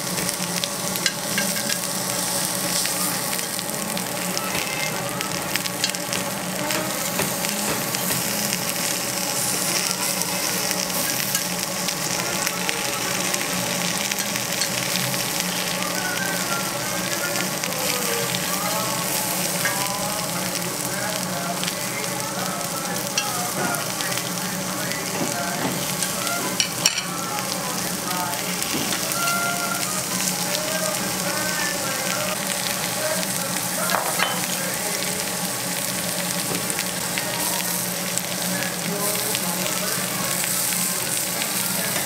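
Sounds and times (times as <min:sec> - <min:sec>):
meat and vegetables sizzling in fat: 0:00.0 - 0:42.0.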